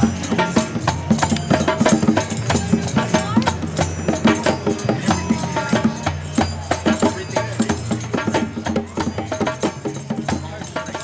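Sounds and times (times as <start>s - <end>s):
percussion beat: 0.0s - 11.0s.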